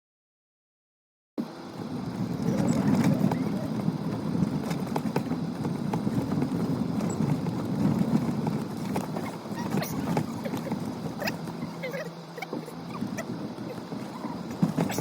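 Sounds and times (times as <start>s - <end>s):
vehicle rumbling on rough road: 1.4s - 15.0s.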